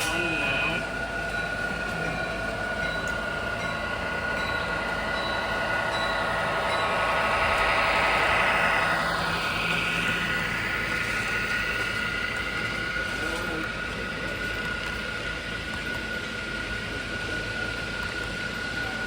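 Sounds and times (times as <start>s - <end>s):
model train whine: 0.0s - 19.0s.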